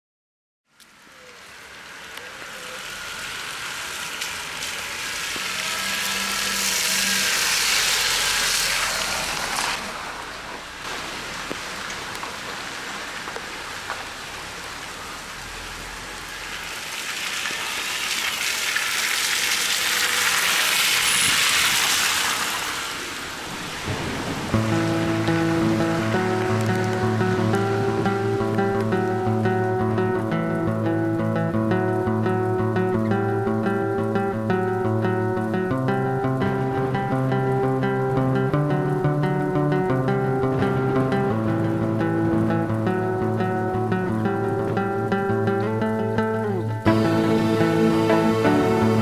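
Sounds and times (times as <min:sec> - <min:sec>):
rain on pavement and cars: 0:00.7 - 0:49.0.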